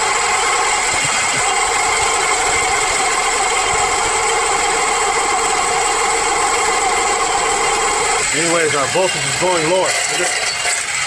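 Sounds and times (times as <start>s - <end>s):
car engine idling with whine: 0.0s - 11.0s.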